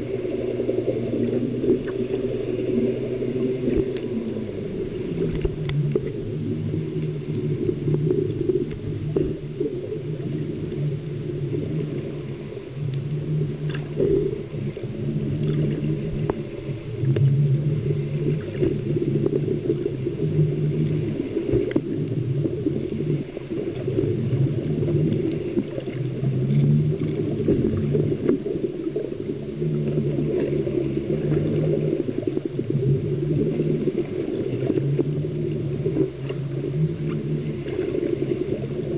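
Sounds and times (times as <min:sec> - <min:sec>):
faint underwater clicks: 0:00.0 - 0:38.9
underwater droning hum: 0:00.0 - 0:38.9.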